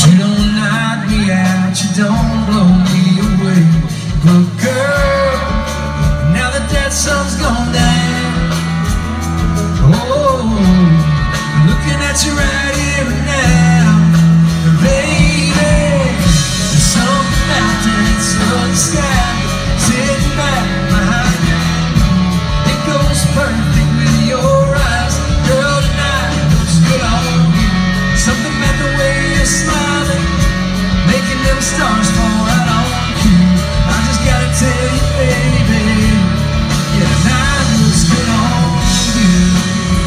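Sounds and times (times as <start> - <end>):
live country band: 0.0 - 40.0
person singing: 0.0 - 40.0.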